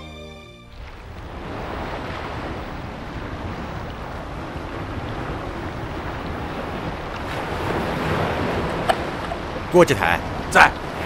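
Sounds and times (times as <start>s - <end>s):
surf: 0.0s - 11.0s
wind: 0.0s - 11.0s.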